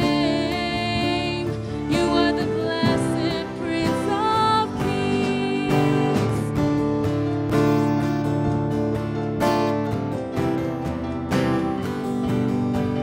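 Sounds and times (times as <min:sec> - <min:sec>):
live worship band music: 0:00.0 - 0:13.0
strummed acoustic guitar: 0:00.0 - 0:13.0.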